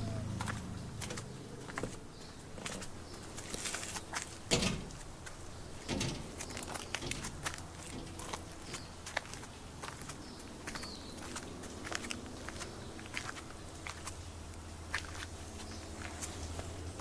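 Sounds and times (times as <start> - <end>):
footsteps crunching on track: 0.0 - 16.8
distant road traffic rumble: 0.0 - 17.0.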